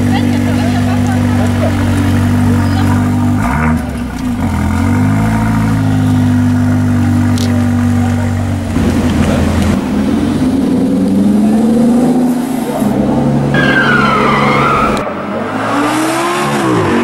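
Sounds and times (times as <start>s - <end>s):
car engine pulling away: 0.0s - 17.0s.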